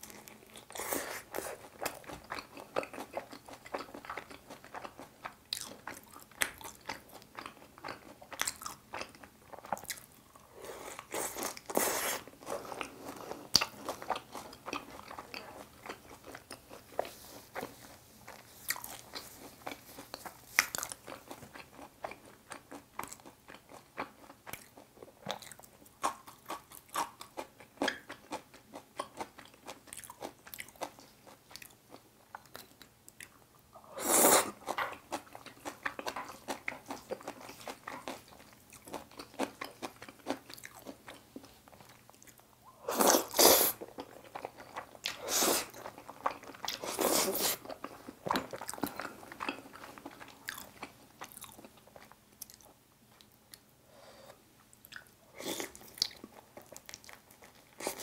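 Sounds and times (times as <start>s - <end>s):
person chewing crunchy food: 0.0s - 53.7s, 54.3s - 58.0s.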